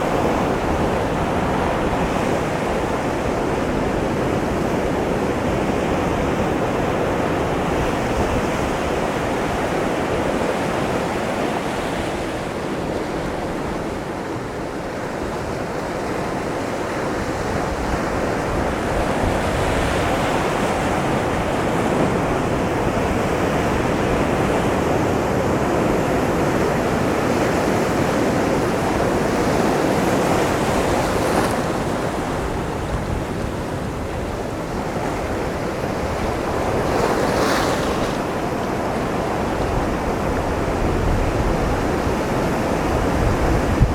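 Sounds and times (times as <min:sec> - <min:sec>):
ocean waves breaking on rocks: 0:00.0 - 0:43.9.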